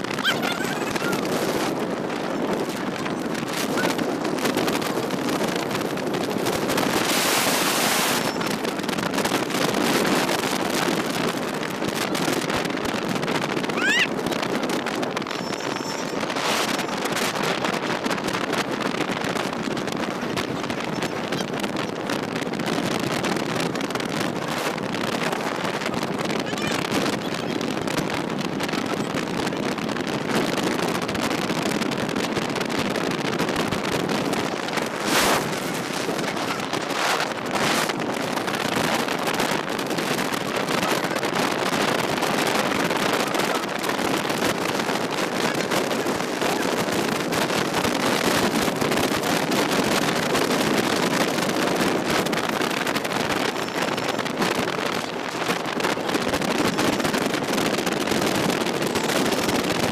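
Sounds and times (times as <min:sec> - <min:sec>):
road and engine noise: 0:00.0 - 0:59.9
wind buffeting microphone: 0:00.0 - 0:59.9.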